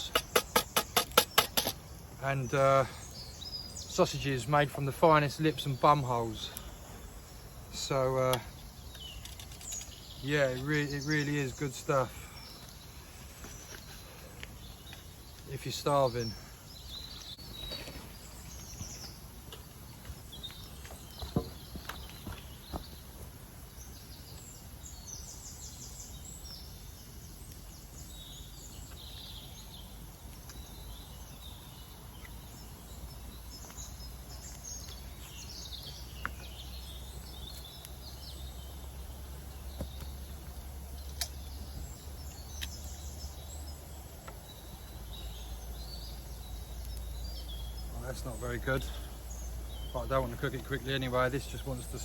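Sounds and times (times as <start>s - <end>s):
small birds chirping and singing: 0.0s - 52.0s.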